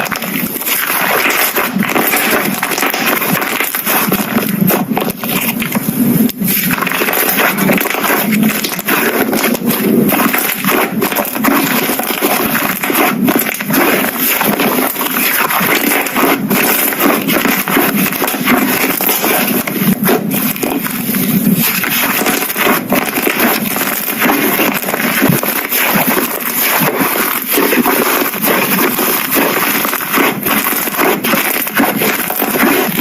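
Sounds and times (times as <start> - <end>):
slime squished by hand: 0.0 - 33.0.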